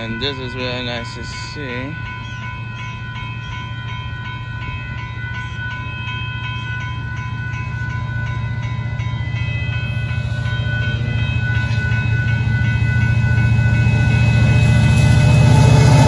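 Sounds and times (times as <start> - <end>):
freight train rumble: 0.0 - 16.0
railroad crossing bell ringing: 0.0 - 16.0.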